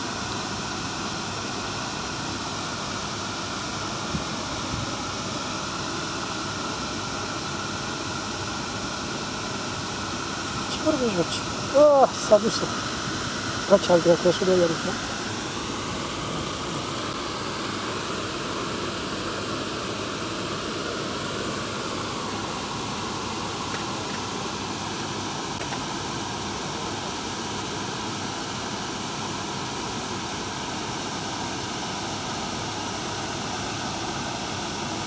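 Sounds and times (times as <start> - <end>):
rush of water through dam: 0.0 - 35.0.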